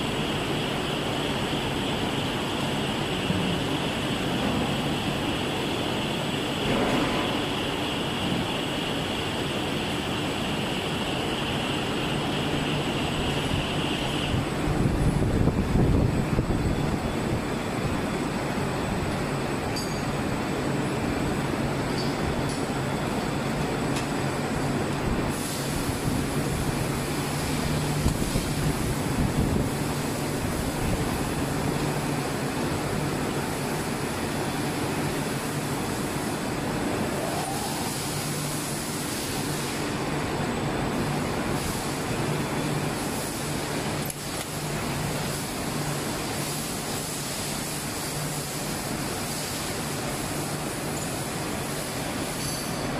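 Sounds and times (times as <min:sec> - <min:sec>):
factory machinery drone: 0:00.0 - 0:52.9.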